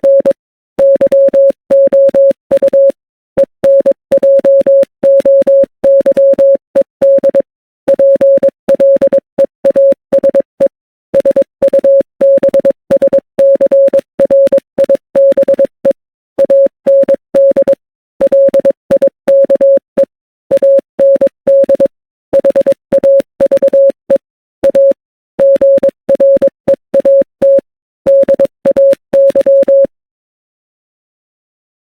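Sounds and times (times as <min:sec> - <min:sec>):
morse code beeps: 0:00.0 - 0:29.9.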